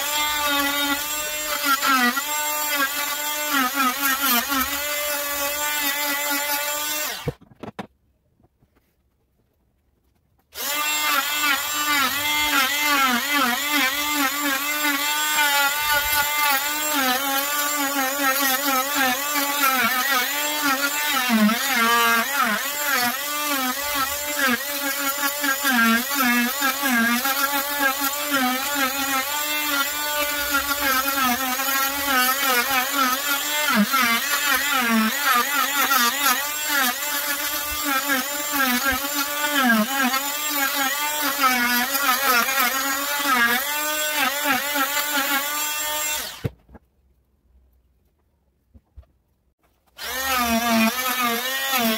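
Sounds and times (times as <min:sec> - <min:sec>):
multi-tool cutting wood: 0:00.0 - 0:07.9, 0:10.4 - 0:46.8, 0:49.6 - 0:51.9.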